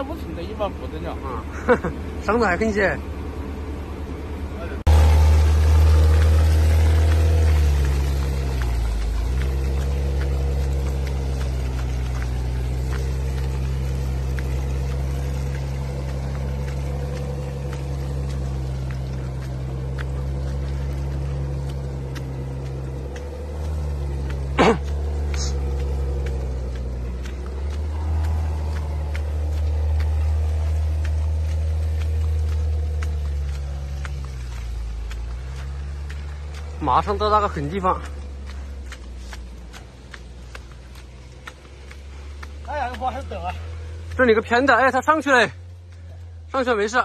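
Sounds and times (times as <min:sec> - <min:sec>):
car engine droning: 0:00.0 - 0:47.0.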